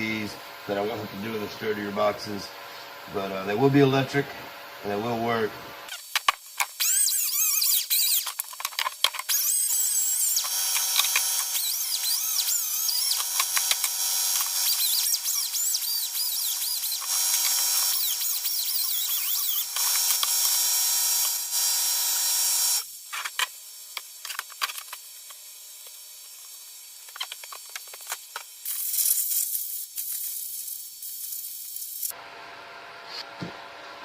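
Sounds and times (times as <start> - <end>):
power tool whining: 0.0 - 30.0.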